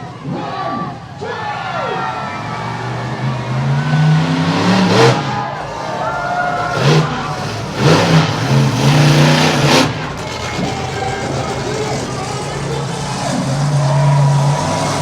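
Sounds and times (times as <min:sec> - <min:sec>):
car engine revving: 0:02.0 - 0:15.0.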